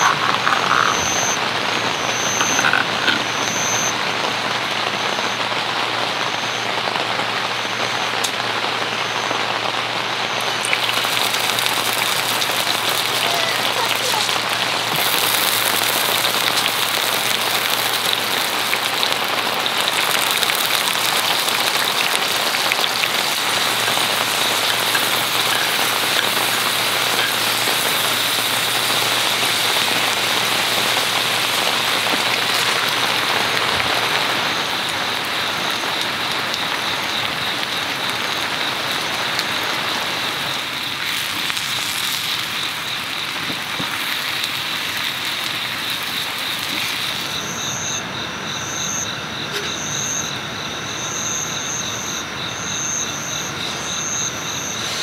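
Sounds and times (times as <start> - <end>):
corn sizzling in oil: 0.0 - 55.0
rain on shelter: 0.0 - 55.0.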